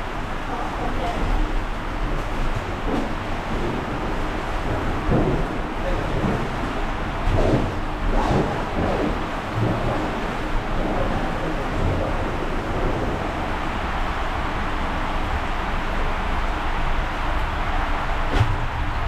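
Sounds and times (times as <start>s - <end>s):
water rushing on a water slide: 0.0s - 19.0s.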